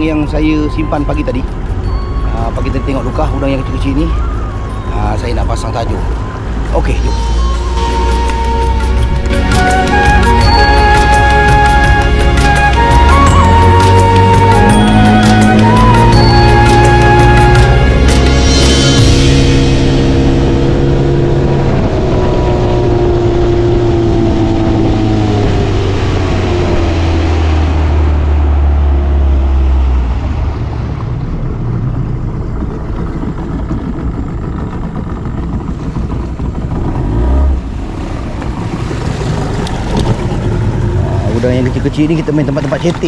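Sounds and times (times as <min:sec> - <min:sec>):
outboard motor running: 0:00.0 - 0:43.0
water noise: 0:00.0 - 0:43.0.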